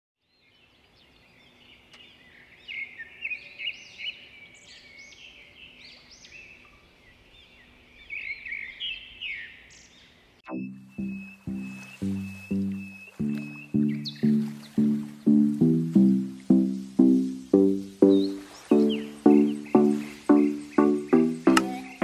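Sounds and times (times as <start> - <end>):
songbirds chirping: 0.2 - 22.0.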